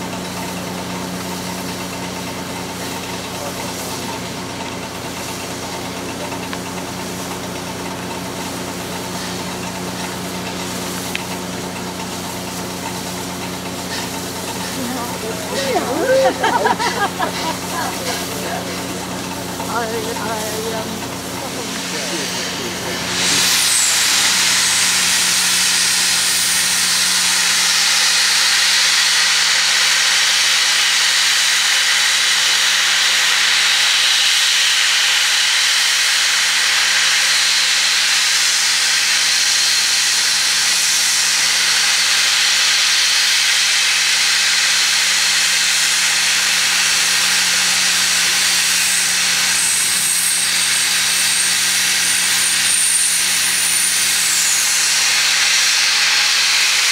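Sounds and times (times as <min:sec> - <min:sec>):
train hissing loudly: 0:00.0 - 0:56.9.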